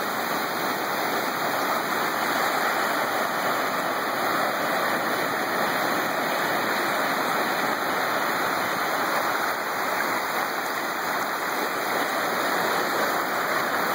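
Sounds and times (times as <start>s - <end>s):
small waves washing in: 0.0s - 13.9s.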